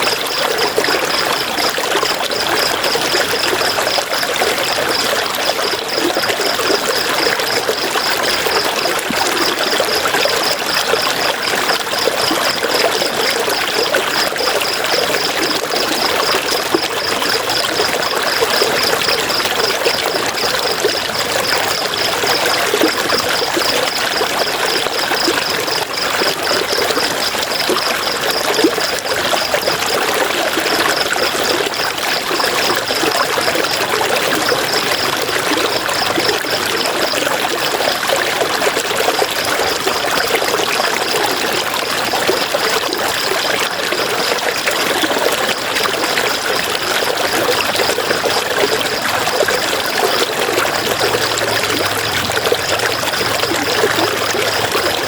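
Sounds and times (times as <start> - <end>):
river water babbling: 0.2 - 55.0.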